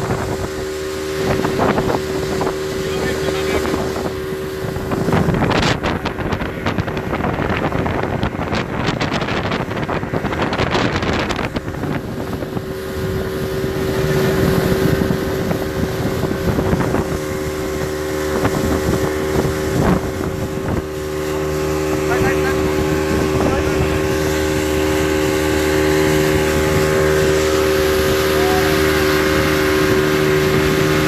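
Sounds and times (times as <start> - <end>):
speedboat engine running: 0.0 - 31.0
wind buffeting microphone: 0.0 - 31.0.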